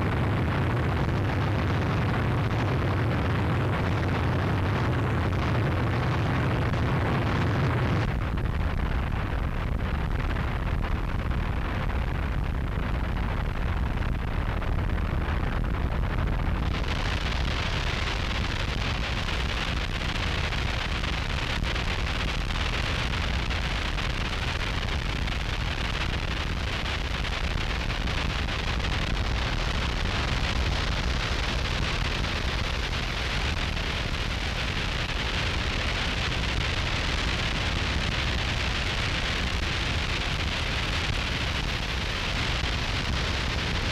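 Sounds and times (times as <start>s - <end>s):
distorted static noise: 0.0s - 43.9s
heavy low rumble: 0.0s - 43.9s.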